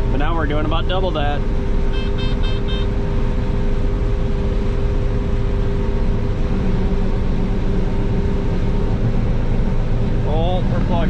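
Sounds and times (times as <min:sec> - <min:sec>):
combine harvester rumbling: 0:00.0 - 0:11.0
low hum: 0:00.0 - 0:11.0.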